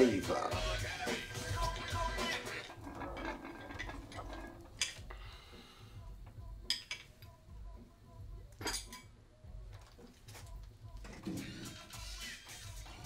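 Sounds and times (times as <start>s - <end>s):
faint muffled music: 0.0s - 13.0s.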